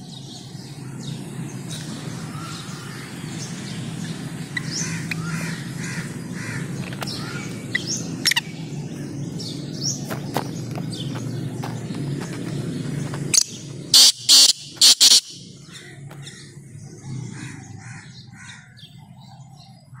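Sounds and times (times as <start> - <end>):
bird harsh calls: 0.0 - 20.0
small birds chirping: 0.0 - 20.0.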